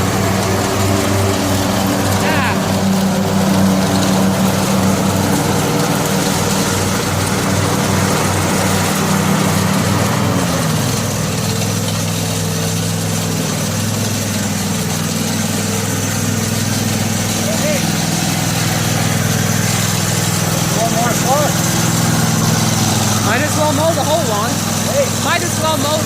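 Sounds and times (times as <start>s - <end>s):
lawn tractor engine running: 0.0s - 26.0s.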